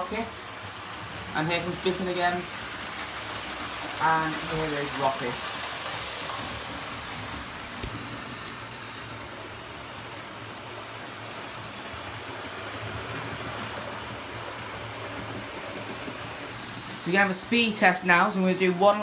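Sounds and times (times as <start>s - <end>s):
model train motors whirring: 0.0s - 19.0s
wheels rumbling on track: 0.0s - 19.0s.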